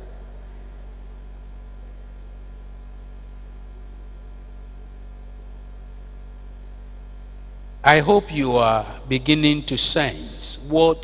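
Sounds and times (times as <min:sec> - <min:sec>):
electrical mains hum: 0:00.0 - 0:11.0
faint recording hiss: 0:00.0 - 0:11.0.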